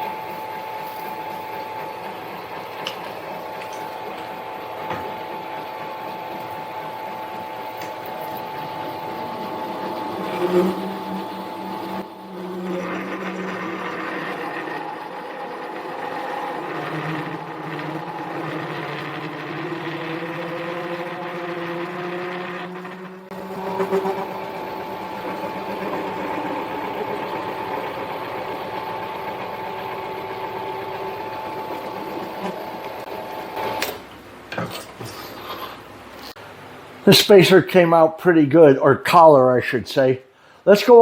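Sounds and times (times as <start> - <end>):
lathe motor humming: 0.0 - 33.7.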